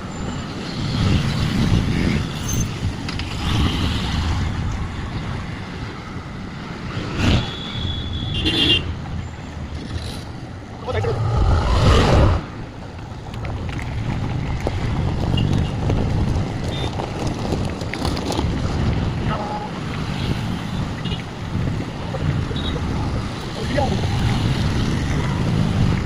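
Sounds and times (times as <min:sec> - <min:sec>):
road traffic noise: 0:00.0 - 0:26.0
wind buffeting microphone: 0:00.7 - 0:06.2, 0:09.7 - 0:26.0.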